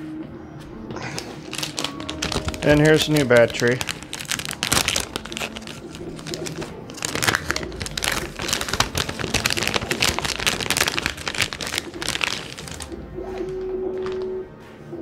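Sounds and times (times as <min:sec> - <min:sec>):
plastic bag crinkling: 0:01.0 - 0:14.3.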